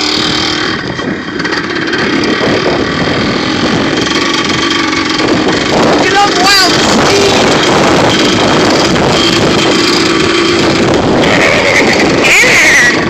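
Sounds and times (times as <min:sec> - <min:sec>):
dirt bike engine running: 0:00.0 - 0:13.0
wind rushing over microphone: 0:00.0 - 0:13.0.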